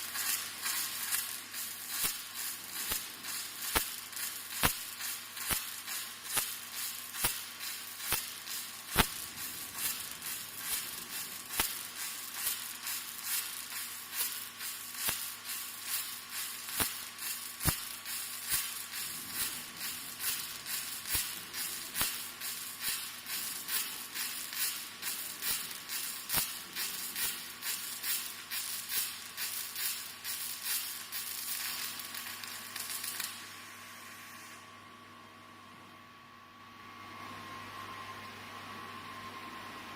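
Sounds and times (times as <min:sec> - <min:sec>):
welding arc crackling and sizzling: 0:00.0 - 0:34.7.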